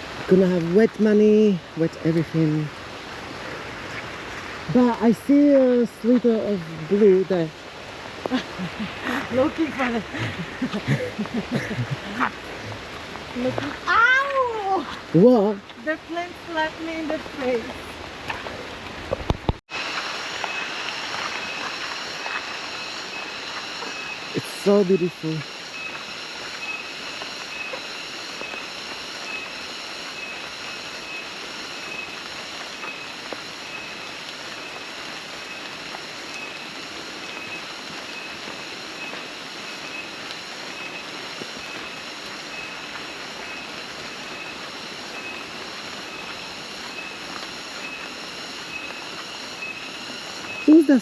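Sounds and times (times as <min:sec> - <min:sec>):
insects buzzing drone: 0:00.0 - 0:19.1, 0:19.7 - 0:51.0.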